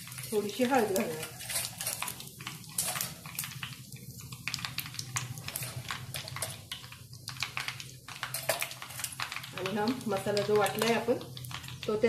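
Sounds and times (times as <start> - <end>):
seeds crackling in hot oil: 0.0 - 12.0.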